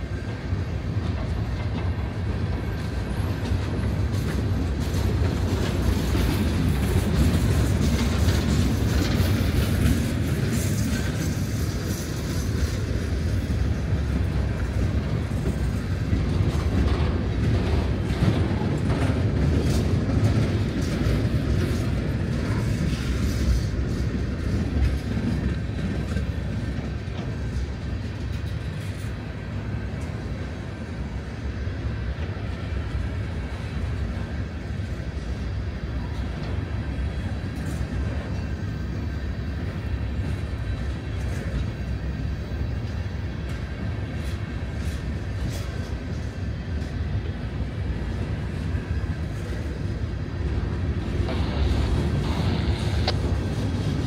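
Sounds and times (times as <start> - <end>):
train cars clanking: 0.0 - 54.0
train wheels rumbling on rails: 0.0 - 54.0.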